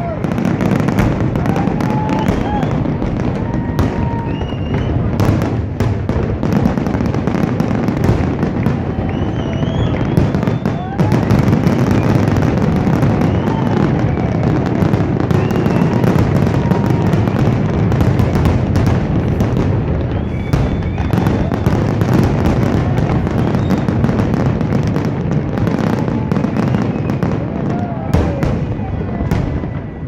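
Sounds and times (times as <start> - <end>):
fireworks booming and crackling: 0.0 - 30.0
fireworks whistles: 0.0 - 30.0.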